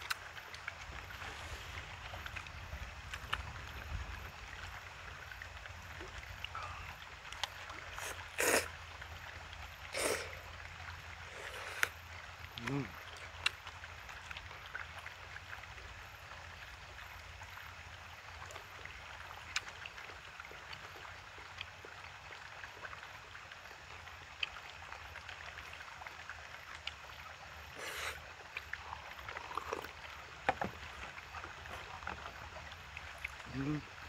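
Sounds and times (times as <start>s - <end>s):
outdoor background hiss: 0.0s - 20.4s, 22.3s - 34.0s
rustle: 0.0s - 34.0s.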